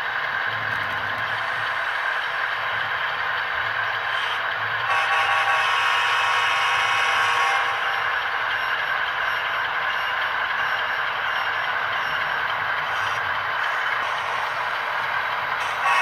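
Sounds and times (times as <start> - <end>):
model train running: 0.0 - 16.0.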